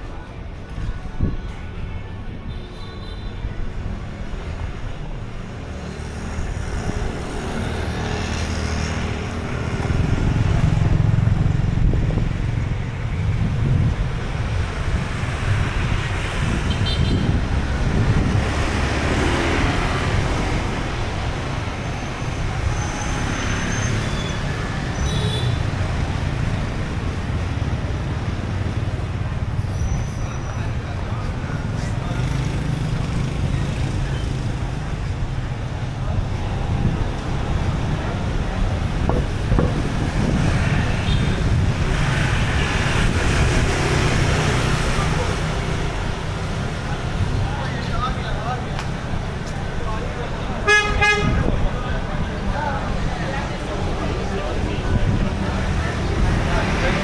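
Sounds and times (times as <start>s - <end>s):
deep traffic rumble: 0.0s - 57.0s
cars and motorbikes passing: 3.5s - 57.0s.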